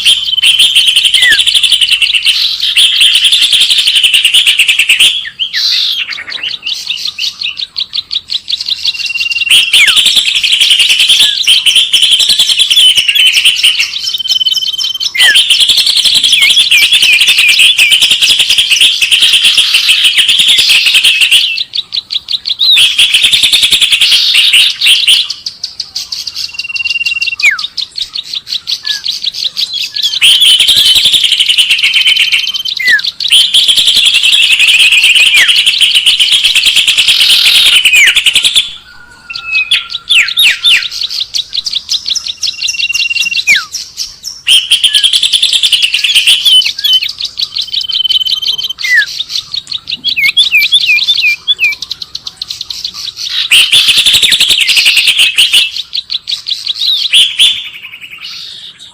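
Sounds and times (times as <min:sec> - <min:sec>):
songbird chirping: 0:00.0 - 0:58.9
whistled bird notes: 0:00.0 - 0:58.9.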